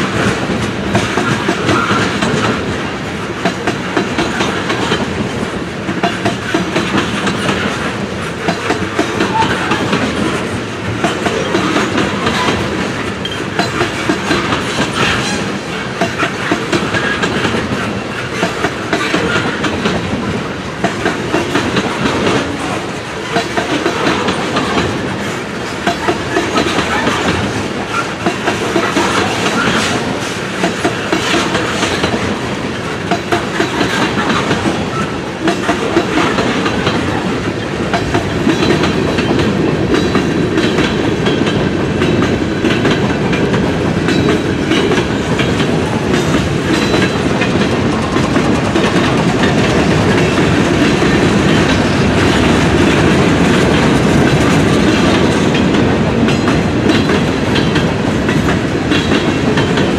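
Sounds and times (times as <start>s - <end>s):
railroad cars rolling past: 0.0s - 59.9s
wheels clicking over rail joints: 0.0s - 59.9s.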